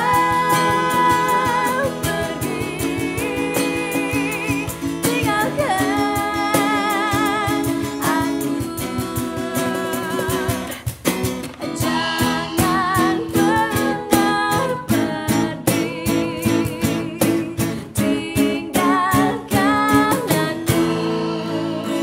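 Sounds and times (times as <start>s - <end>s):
woman singing with vibrato: 0.0s - 10.9s, 11.6s - 22.0s
cajon beats: 0.0s - 22.0s
strummed acoustic guitar: 0.0s - 22.0s.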